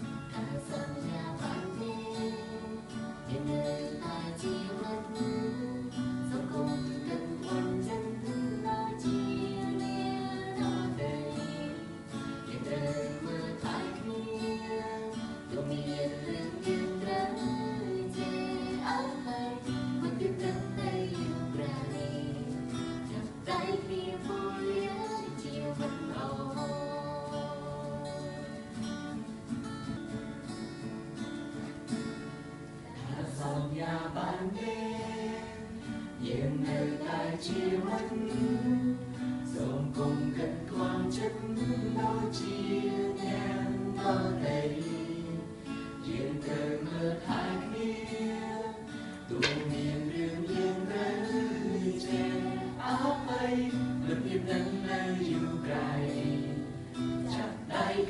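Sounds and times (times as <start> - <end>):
person singing: 0.0 - 28.8, 32.9 - 58.0
acoustic guitar strumming: 0.0 - 58.0.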